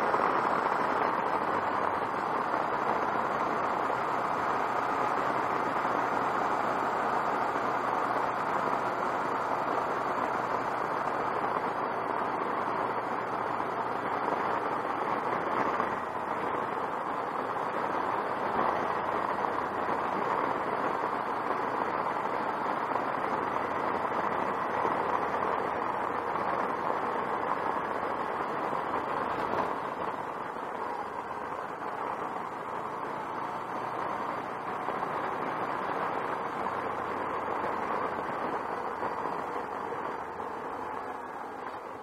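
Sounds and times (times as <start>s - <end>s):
wind and road noise: 0.0s - 42.0s.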